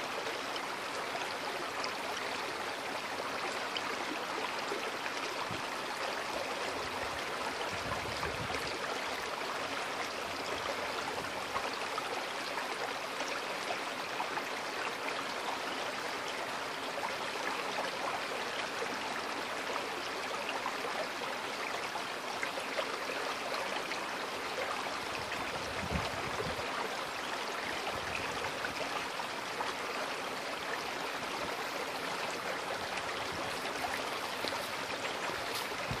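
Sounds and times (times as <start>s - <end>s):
creek flowing over stones: 0.0s - 36.0s.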